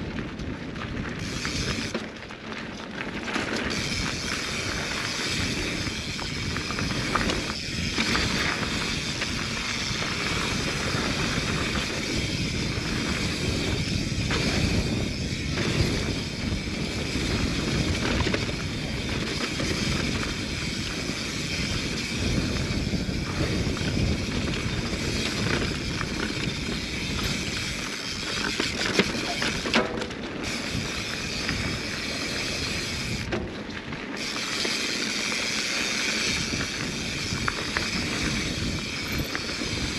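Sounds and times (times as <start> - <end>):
bike rattling and knocking: 0.0 - 39.9
bike tyre noise on dirt: 0.0 - 39.9.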